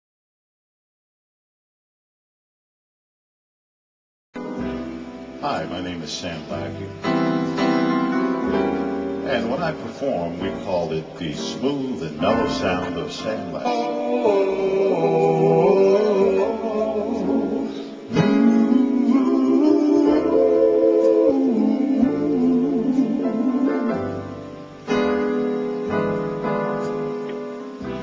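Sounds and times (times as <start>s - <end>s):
keyboard chords: 4.4s - 28.0s.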